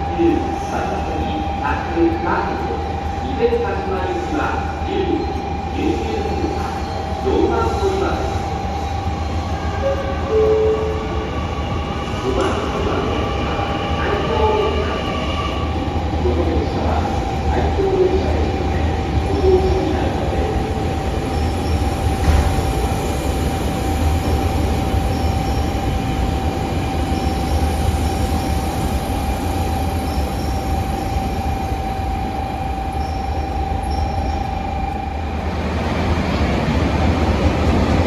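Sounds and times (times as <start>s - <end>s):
constant high whine: 0.0s - 38.0s
train rumbling: 0.0s - 38.0s.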